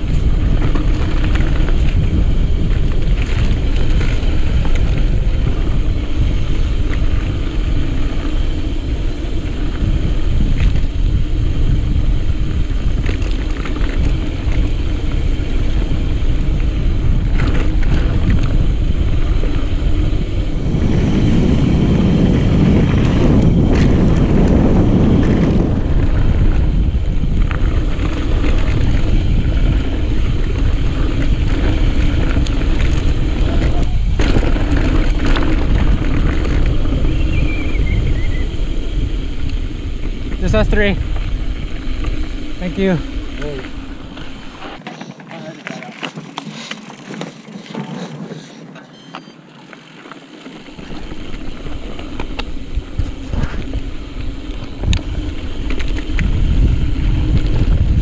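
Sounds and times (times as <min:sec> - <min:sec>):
wind buffeting microphone: 0:00.0 - 0:48.7, 0:50.6 - 0:58.0
bike rattling over rocks: 0:00.0 - 0:58.0.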